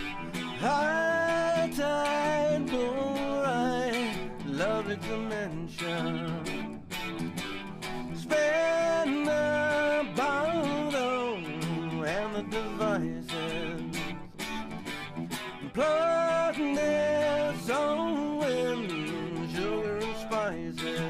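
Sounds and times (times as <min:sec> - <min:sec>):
guitar strumming: 0:00.0 - 0:21.0.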